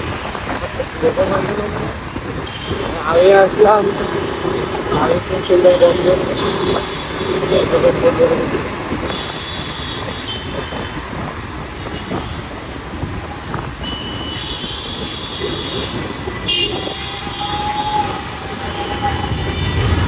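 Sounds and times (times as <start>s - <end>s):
passing vehicles rumble: 0.0s - 20.0s.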